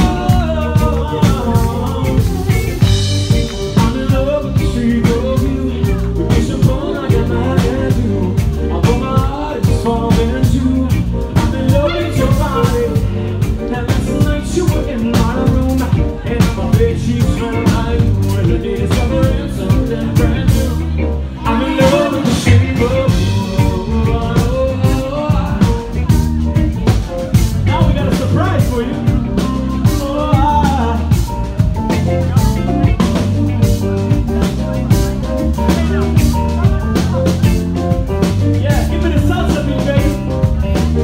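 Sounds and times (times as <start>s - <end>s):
drum kit beat: 0.0s - 41.0s
live band playing upbeat song: 0.0s - 41.0s
person singing: 0.0s - 41.0s.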